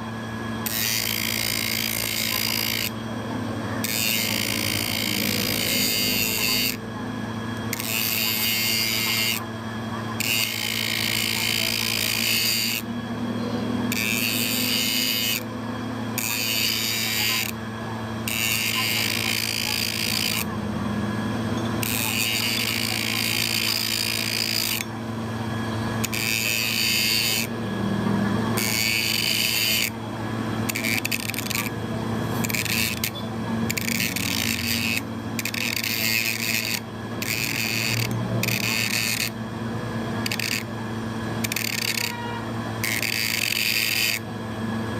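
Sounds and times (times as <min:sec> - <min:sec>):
power tool motor humming: 0:00.0 - 0:44.9
high hissing metal cutting: 0:00.6 - 0:07.0, 0:07.6 - 0:25.0, 0:25.6 - 0:30.0, 0:30.6 - 0:40.8.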